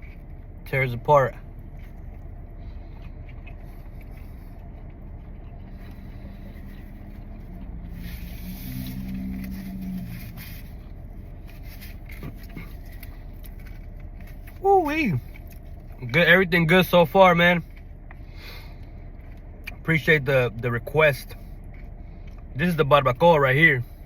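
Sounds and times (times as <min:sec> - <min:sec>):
low vehicle rumble: 0:00.0 - 0:24.0
passing vehicle engine hum: 0:00.0 - 0:24.0.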